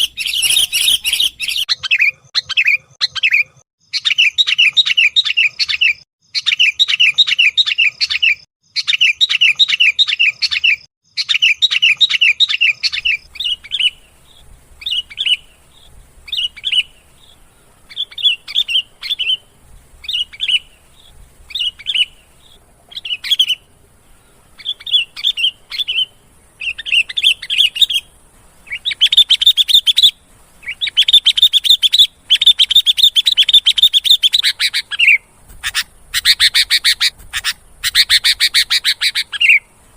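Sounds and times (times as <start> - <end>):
bulbul chattering calls: 0.0 - 39.9.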